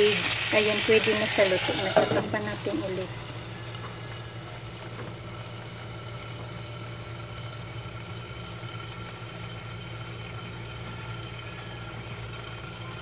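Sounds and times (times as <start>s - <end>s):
dumplings frying and hissing: 0.0s - 13.0s.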